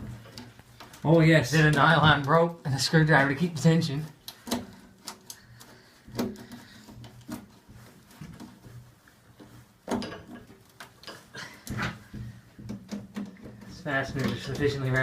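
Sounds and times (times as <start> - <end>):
light clicks and knocks: 0.0 - 15.0.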